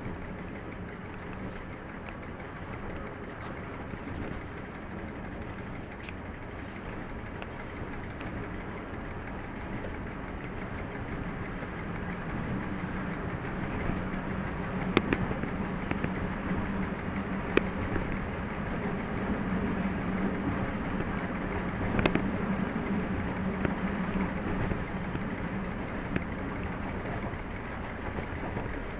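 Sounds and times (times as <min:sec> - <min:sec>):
diesel locomotive running: 0:00.0 - 0:28.9
low hum: 0:00.0 - 0:28.9.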